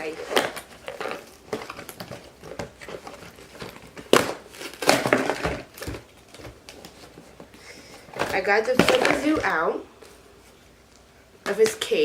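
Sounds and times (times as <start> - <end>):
packaging crinkling and rustling: 0.0 - 11.9.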